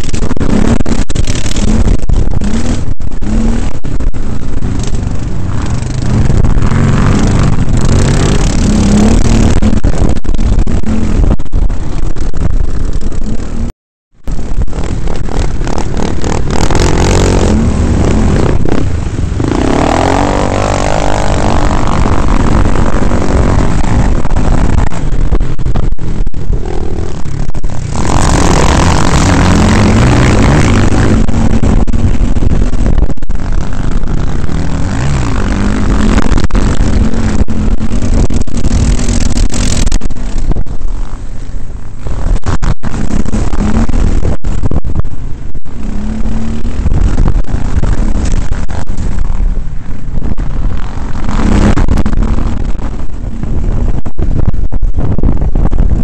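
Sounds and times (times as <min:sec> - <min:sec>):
quad bike engine revving: 0:00.0 - 0:45.0, 0:45.7 - 0:49.4, 0:50.2 - 0:54.0
wind and terrain rushing: 0:00.0 - 0:56.0.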